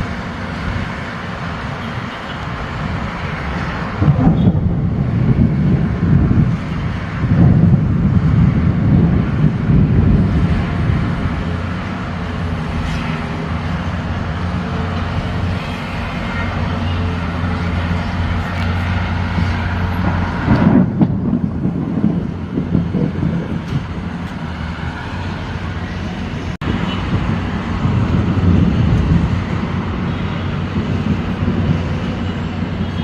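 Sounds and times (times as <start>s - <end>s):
low hum of road traffic: 0.0s - 33.0s
thunder rumbling: 2.5s - 32.8s.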